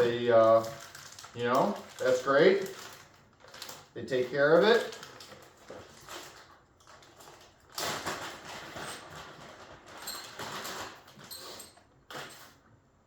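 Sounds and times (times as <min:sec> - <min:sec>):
plastic packaging rustling: 0:00.0 - 0:12.6.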